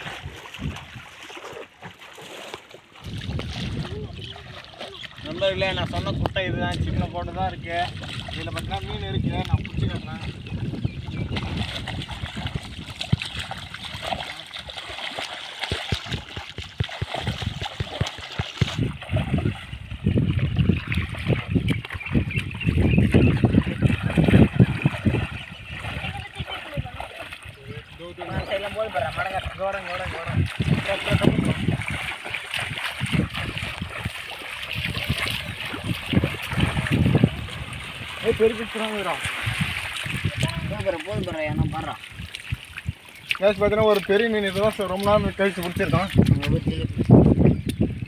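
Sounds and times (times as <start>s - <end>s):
people wading: 0.0s - 47.2s
water splashing and sloshing: 0.0s - 48.0s.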